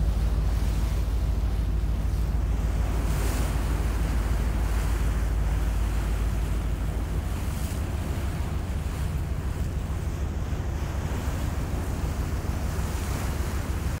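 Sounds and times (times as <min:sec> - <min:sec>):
sea wash: 0:00.0 - 0:14.0
wind buffeting microphone: 0:00.0 - 0:14.0.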